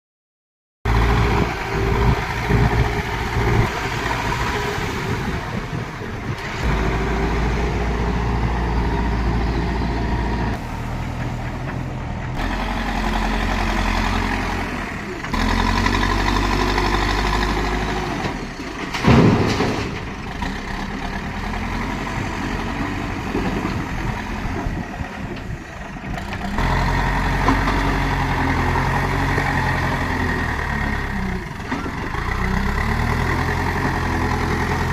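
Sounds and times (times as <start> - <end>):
heavy diesel engines running: 0.9 - 34.9.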